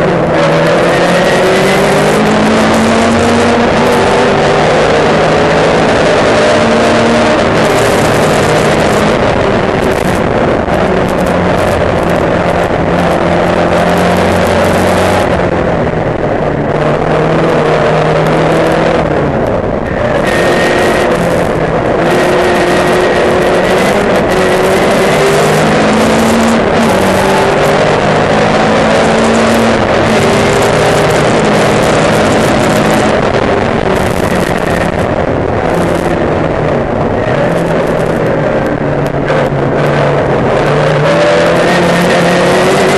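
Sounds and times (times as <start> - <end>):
loud rushing noise: 0.0 - 42.9
race car engine revving: 0.0 - 42.9.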